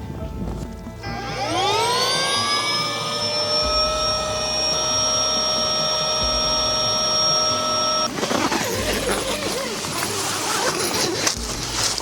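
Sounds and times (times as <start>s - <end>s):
small motor whining: 1.0s - 12.0s.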